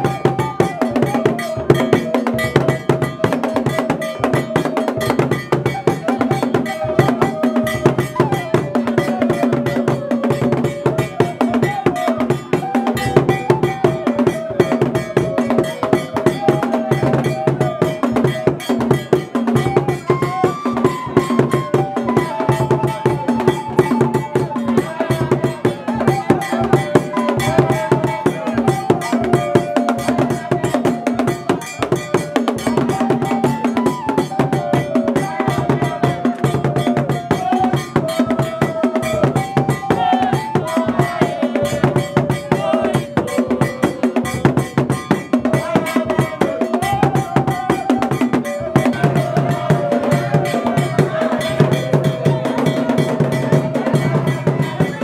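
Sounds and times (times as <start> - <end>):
dance music with drums and bell: 0.0 - 55.0.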